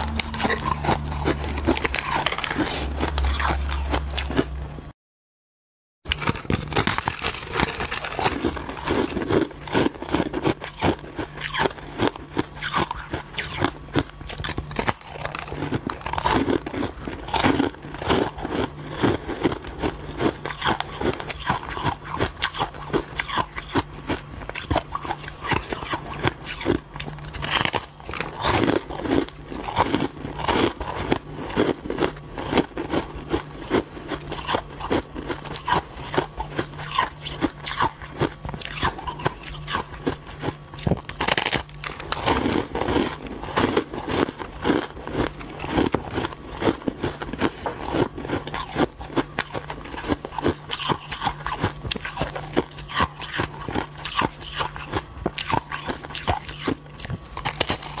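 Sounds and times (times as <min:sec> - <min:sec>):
crunching and chewing shaved ice: 0:00.0 - 0:04.8, 0:06.1 - 0:58.0.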